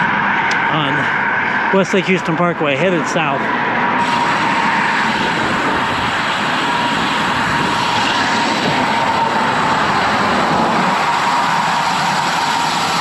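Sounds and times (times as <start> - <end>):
faint steady whine: 0.0 - 13.0
road traffic: 0.0 - 13.0
strong wind rushing: 0.0 - 13.0.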